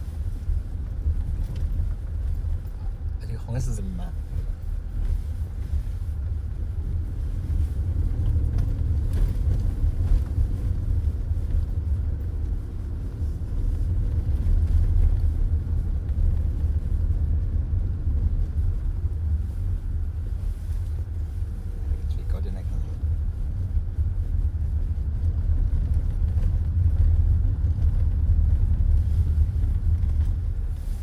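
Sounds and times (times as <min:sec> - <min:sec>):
road and tyre noise in car: 0:00.0 - 0:31.0.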